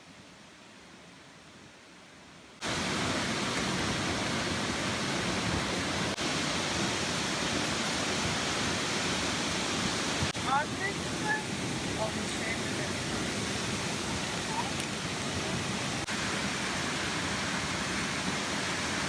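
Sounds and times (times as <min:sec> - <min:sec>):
waterfall rushing: 0:02.6 - 0:19.0.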